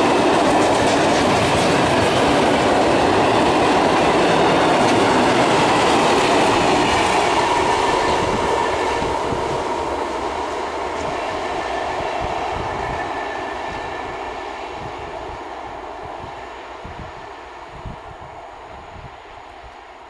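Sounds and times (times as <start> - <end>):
train wheels rumbling and clattering: 0.0 - 18.0.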